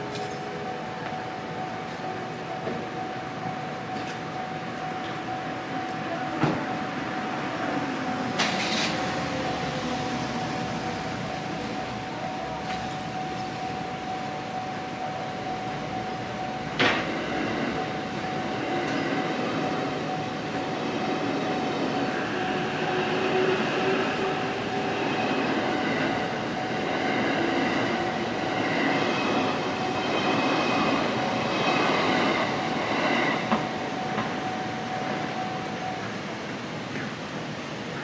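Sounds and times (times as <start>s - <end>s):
train rumbling past: 0.0s - 38.0s.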